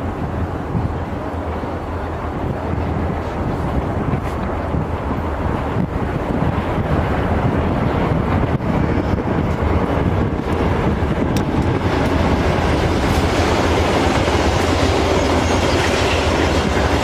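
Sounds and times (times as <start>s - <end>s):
freight locomotives rumbling: 0.0s - 17.0s
wind buffeting microphone: 0.0s - 17.0s.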